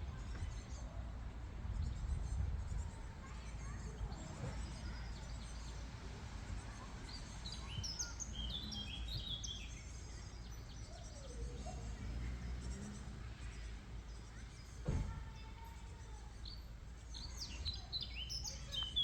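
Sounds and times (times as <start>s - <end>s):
songbird chirping: 1.6s - 19.0s.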